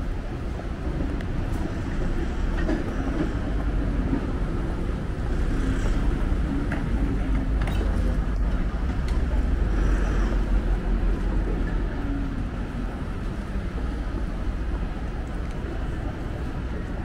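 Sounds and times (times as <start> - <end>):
vehicles rumbling: 0.0 - 17.0.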